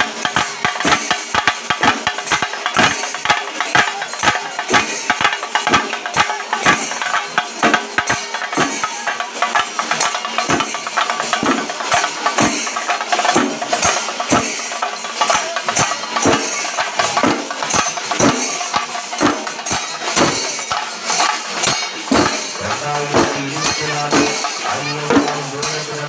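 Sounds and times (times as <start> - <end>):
cymbals shimmering: 0.0 - 26.0
drums beating: 0.0 - 26.0.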